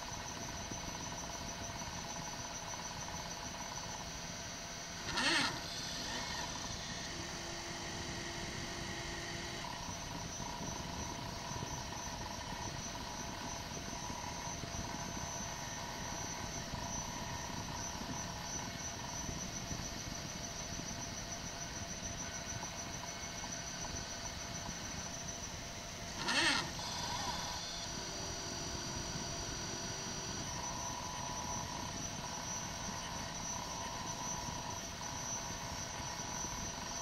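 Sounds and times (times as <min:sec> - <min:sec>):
stepper motors whining: 0:00.1 - 0:37.0.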